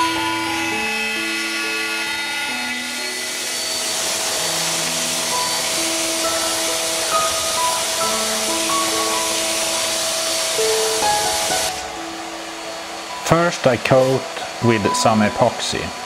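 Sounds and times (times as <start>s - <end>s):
background music with held notes: 0.0s - 16.0s
power sander on wood: 0.0s - 16.0s.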